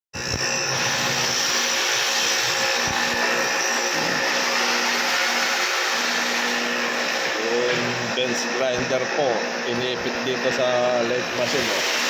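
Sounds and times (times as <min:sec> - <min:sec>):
electric grinder whirring: 0:00.2 - 0:12.0.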